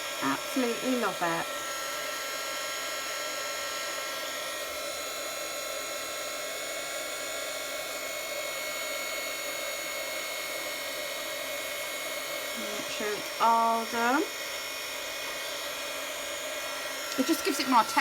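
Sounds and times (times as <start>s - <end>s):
heat tool fan whining: 0.0s - 18.0s.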